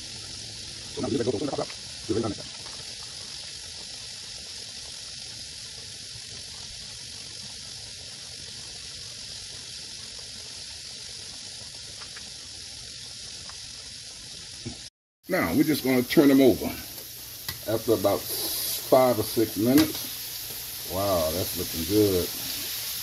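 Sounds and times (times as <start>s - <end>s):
ribs sizzling in hot oil: 0.0s - 23.0s.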